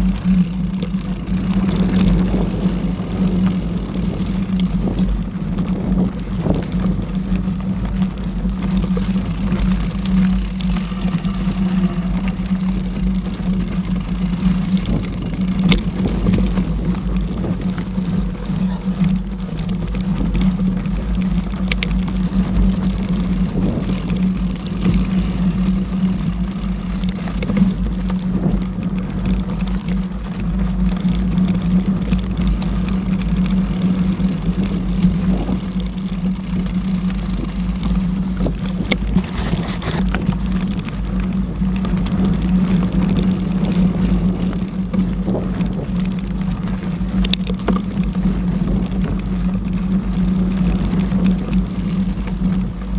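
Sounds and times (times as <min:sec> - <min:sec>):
mountain bike running hum: 0:00.0 - 0:52.9.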